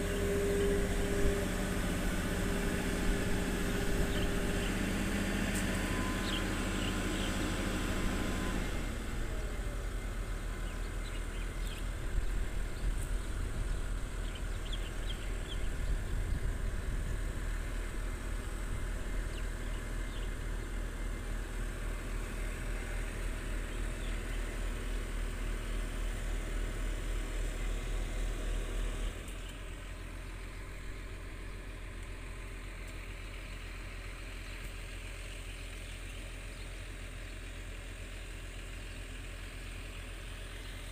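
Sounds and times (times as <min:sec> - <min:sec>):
excavator diesel engines running: 0:00.0 - 0:40.9.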